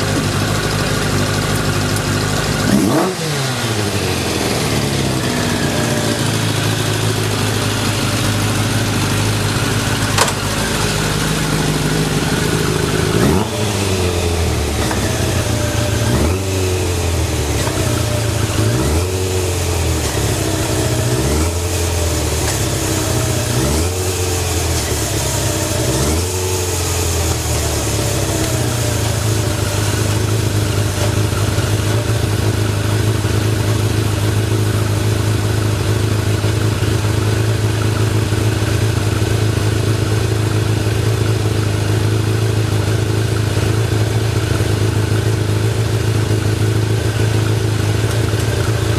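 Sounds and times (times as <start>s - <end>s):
motorcycle engine idling: 0.0s - 48.9s
motorcycle engine revving: 0.0s - 48.9s.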